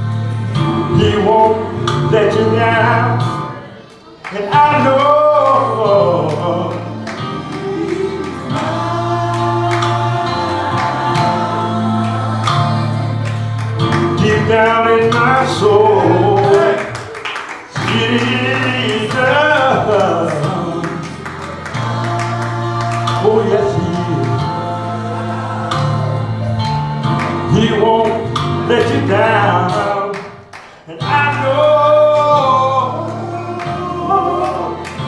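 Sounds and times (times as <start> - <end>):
voices singing gospel: 0.0 - 35.0.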